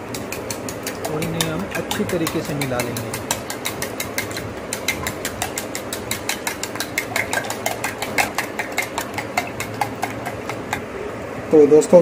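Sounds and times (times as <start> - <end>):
whisk clinking in steel bowl: 0.0 - 10.9.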